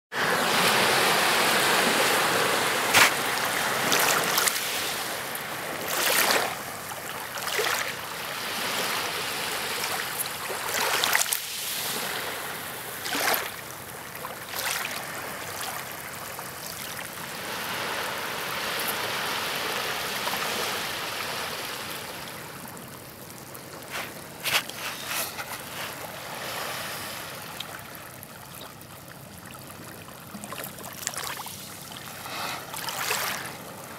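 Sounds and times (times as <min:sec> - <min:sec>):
steady wash of water: 0:00.1 - 0:33.9
waves splashing over rocks: 0:00.2 - 0:33.9.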